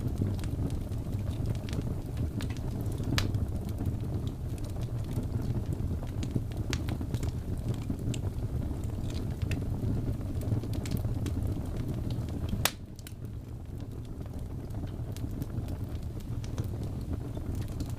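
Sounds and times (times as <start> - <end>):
fire popping and snapping: 0.0 - 17.9
wood fire crackling: 0.0 - 17.9.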